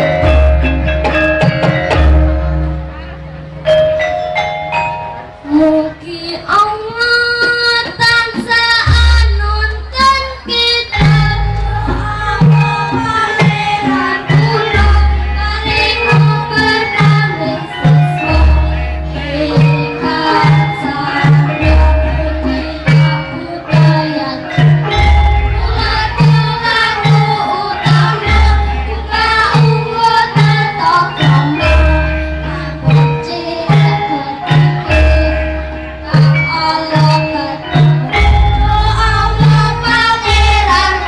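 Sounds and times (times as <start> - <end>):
hand drum beat: 0.0 - 4.0, 6.8 - 41.0
gamelan ensemble playing: 0.0 - 41.0
voices singing: 0.0 - 41.0.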